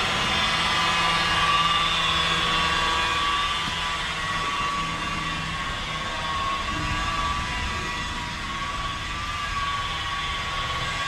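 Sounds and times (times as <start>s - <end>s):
power tool motor whining: 0.0s - 11.0s.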